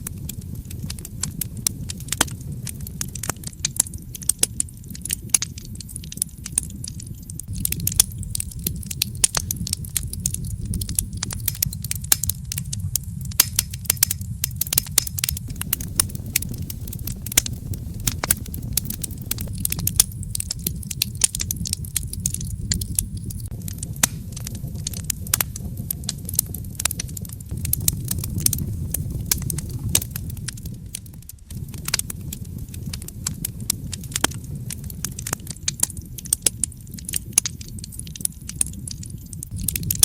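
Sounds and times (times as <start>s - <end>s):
steady low rumble: 0.0s - 40.0s
wood fire crackling and popping: 0.0s - 40.0s.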